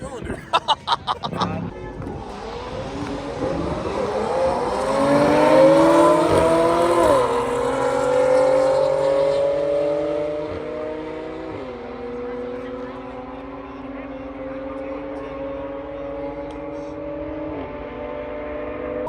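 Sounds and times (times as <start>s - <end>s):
car engine accelerating hard: 1.3s - 19.0s.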